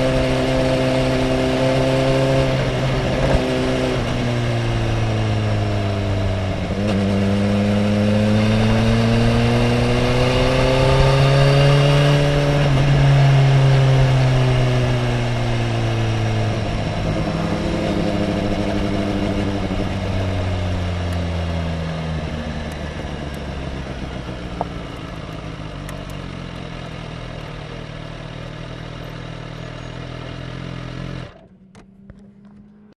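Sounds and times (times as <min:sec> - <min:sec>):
sport motorcycle engine: 0:00.0 - 0:32.9.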